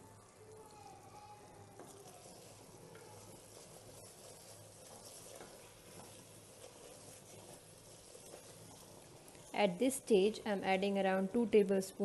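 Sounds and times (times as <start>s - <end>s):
faint sizzling in pot: 0.0s - 12.0s
spatula stirring thick gravy: 0.3s - 11.4s.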